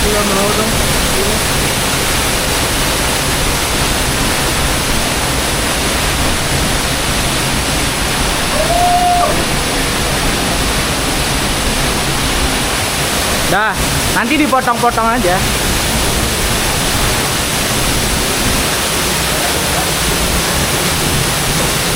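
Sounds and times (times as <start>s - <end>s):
waterfall pouring: 0.0s - 21.9s.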